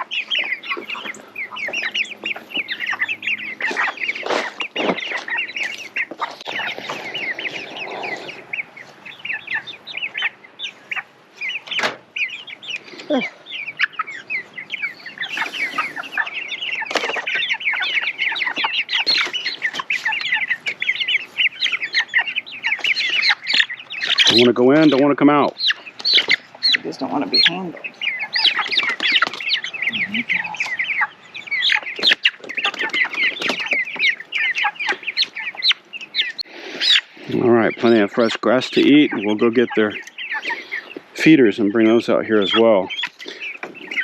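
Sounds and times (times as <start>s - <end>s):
chicks cheeping: 0.0s - 44.0s.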